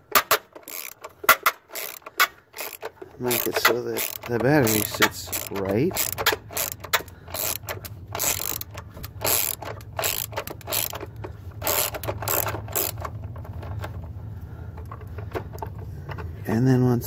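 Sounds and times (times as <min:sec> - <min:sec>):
socket ratchet clicking: 0:00.0 - 0:13.9
low steady hum: 0:00.0 - 0:17.0.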